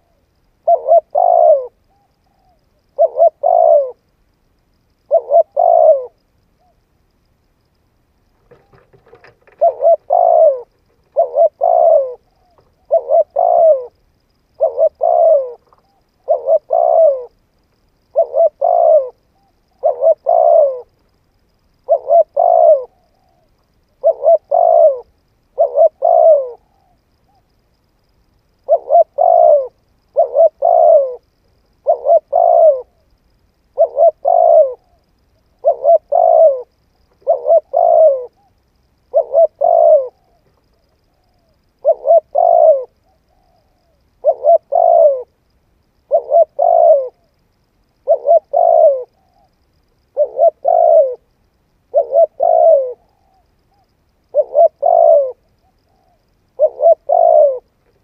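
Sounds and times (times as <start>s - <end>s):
dove cooing: 0.0s - 4.1s, 5.0s - 6.8s, 8.4s - 21.1s, 21.7s - 27.5s, 28.5s - 45.4s, 46.0s - 58.0s.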